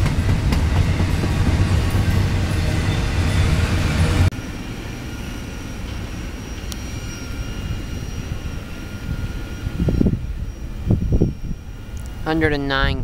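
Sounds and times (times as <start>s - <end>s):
train wheels rumbling: 0.0s - 12.3s.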